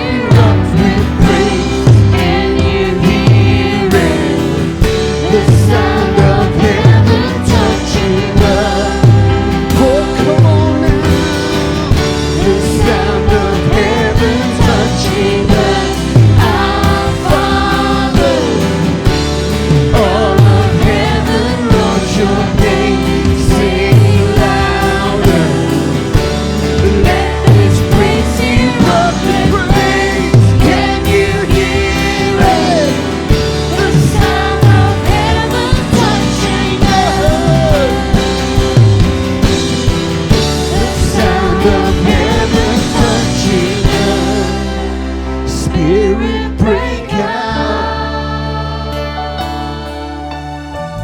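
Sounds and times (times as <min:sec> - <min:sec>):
voices singing: 0:00.0 - 0:51.0
worship band playing: 0:00.0 - 0:51.0.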